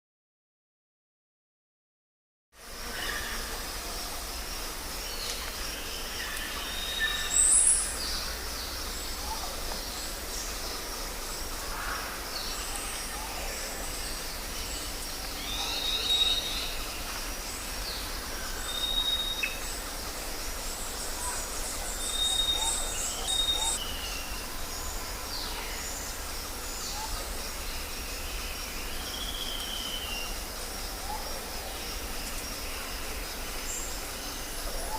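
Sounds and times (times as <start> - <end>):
insects hissing: 2.6 - 34.9
birds calling: 5.1 - 34.9.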